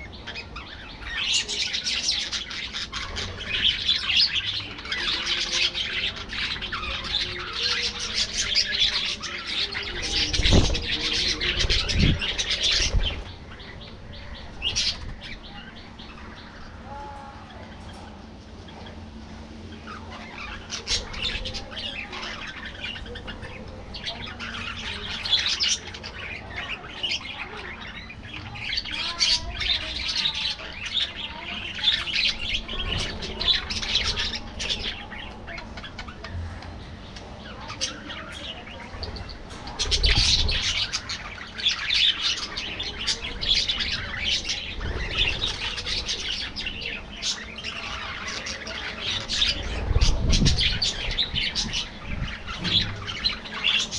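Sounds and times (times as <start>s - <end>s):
budgerigars chattering: 0.0s - 16.8s, 17.5s - 53.9s.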